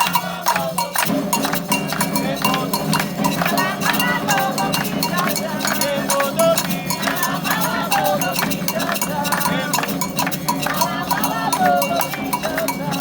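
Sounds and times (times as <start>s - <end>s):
hand drums: 0.0s - 13.0s
struck metal bell: 0.0s - 13.0s
voices chanting: 0.0s - 13.0s.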